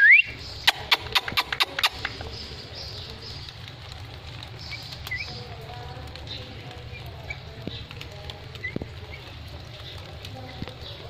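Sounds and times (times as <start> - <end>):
parakeets chirping: 0.0 - 11.0.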